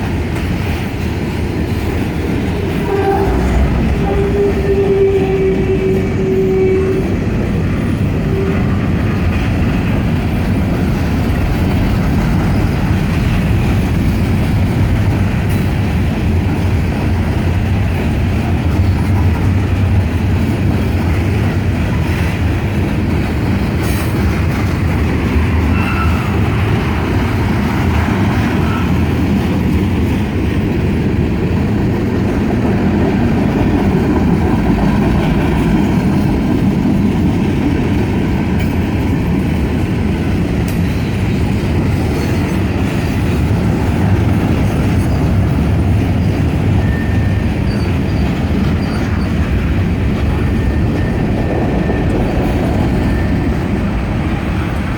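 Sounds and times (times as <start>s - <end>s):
freight train rumble and clatter: 0.0s - 54.9s.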